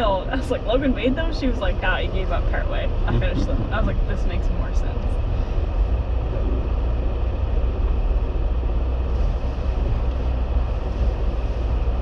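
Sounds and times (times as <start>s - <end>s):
vehicle driving on snow: 0.0s - 12.0s.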